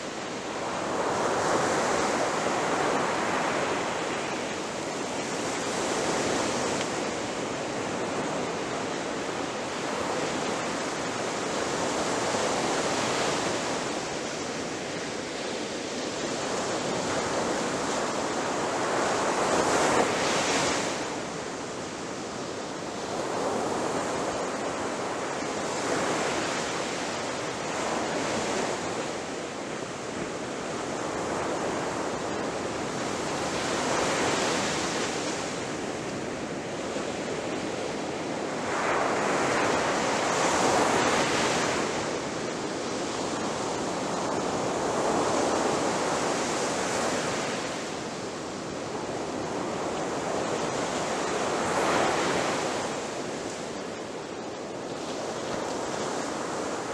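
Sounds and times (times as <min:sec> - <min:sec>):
ocean waves breaking on shore: 0:00.0 - 0:56.9.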